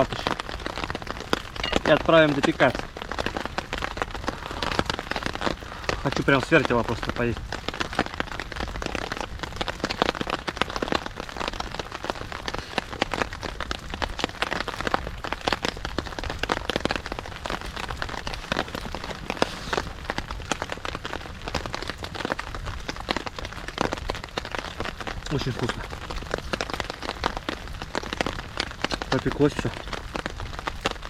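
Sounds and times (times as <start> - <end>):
rain on a tarp: 0.0 - 31.0.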